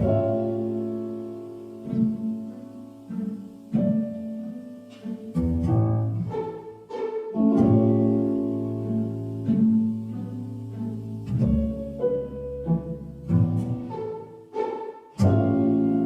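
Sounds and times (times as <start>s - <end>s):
low string instrumental music: 0.0s - 16.0s.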